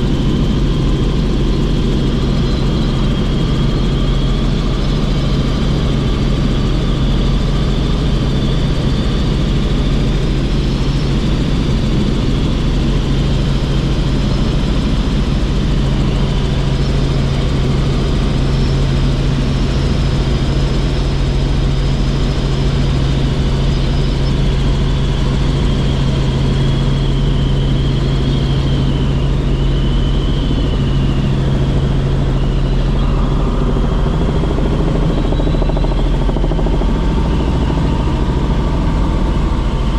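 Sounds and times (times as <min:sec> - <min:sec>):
helicopter engine and rotor drone: 0:00.0 - 0:39.9
high wavering whine: 0:00.0 - 0:39.9.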